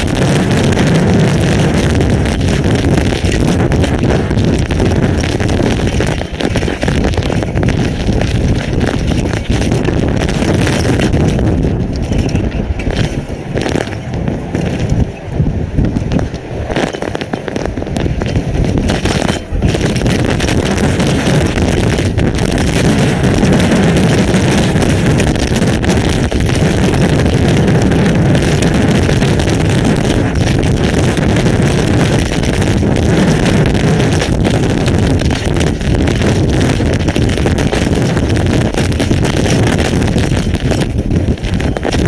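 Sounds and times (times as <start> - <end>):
hail and rain impacts: 0.0 - 42.0
wind buffeting microphone: 0.0 - 42.0.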